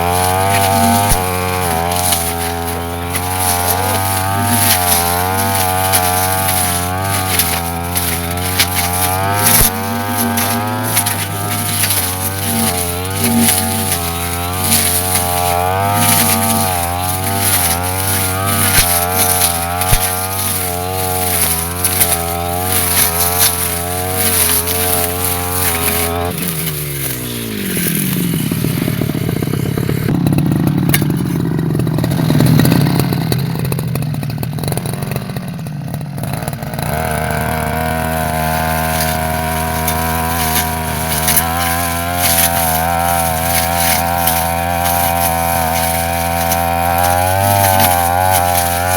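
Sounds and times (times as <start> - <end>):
brush cutter engine revving: 0.0 - 48.9.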